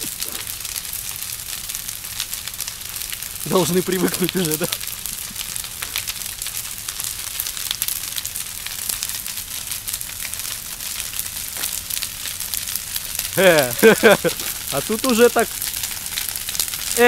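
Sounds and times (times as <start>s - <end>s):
large fire crackling and hissing: 0.0s - 17.0s.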